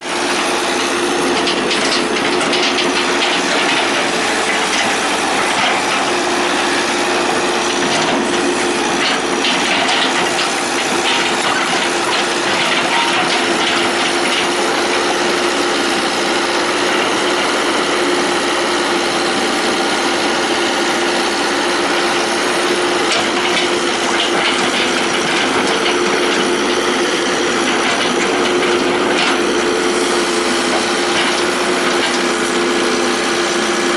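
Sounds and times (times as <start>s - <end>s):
excavator diesel engine running: 0.0s - 33.9s
digging scraping and clattering: 0.2s - 17.8s, 22.2s - 32.7s.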